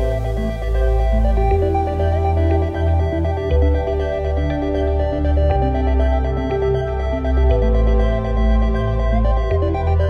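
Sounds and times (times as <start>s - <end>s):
deep bass line: 0.0s - 10.0s
held synth notes: 0.0s - 10.0s.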